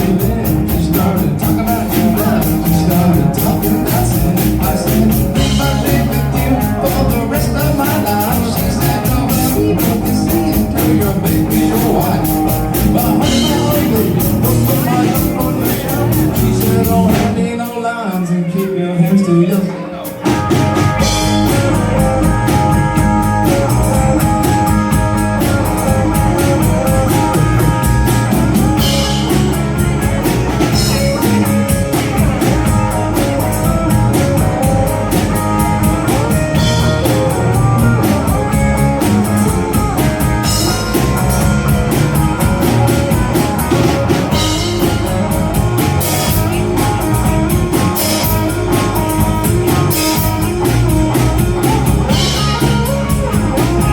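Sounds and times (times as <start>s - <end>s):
drum kit: 0.0s - 18.3s, 19.0s - 53.9s
electric guitar: 0.0s - 18.6s, 19.6s - 53.9s
bass guitar: 0.0s - 53.9s.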